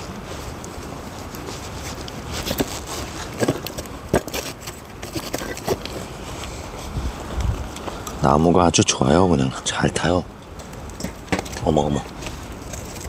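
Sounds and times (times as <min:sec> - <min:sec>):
fire popping: 0:00.0 - 0:08.4, 0:09.5 - 0:13.0
campfire crackling: 0:00.0 - 0:13.0.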